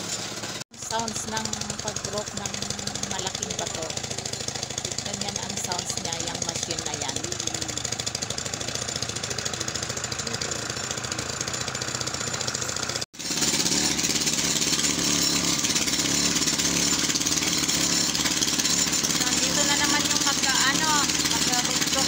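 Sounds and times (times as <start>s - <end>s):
engine running: 0.0s - 22.0s
rock breaker pounding: 0.0s - 22.0s.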